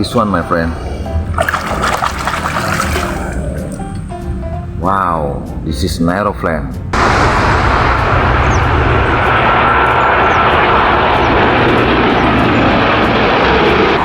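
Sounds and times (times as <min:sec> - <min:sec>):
airplane engine rumbling: 0:00.0 - 0:14.0.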